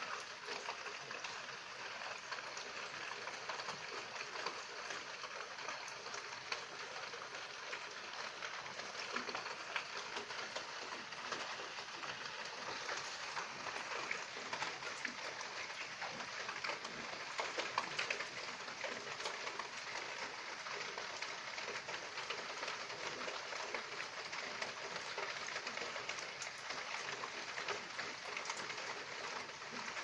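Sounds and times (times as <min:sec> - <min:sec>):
drips ticking: 0:00.0 - 0:30.0
rain falling: 0:00.0 - 0:30.0.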